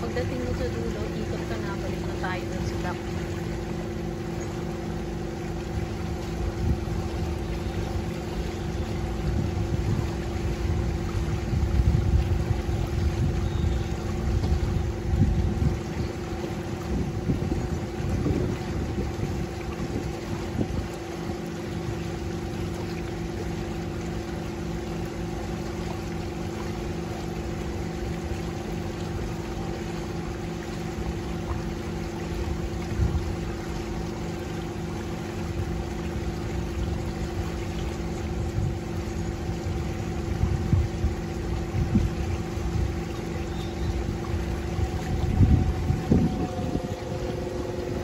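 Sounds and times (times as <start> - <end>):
boat motor humming: 0.0 - 48.0
wind rumbling on microphone: 5.3 - 24.2, 27.3 - 48.0.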